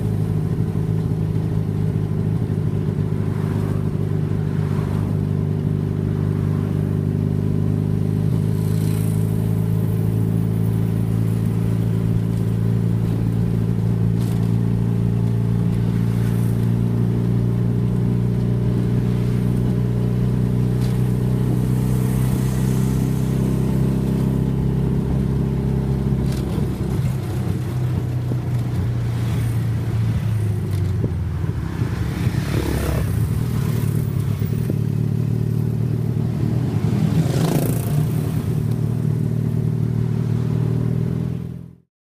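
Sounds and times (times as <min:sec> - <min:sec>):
tuk tuk engine running: 0:00.0 - 0:41.8
vehicles passing close by: 0:00.0 - 0:41.8.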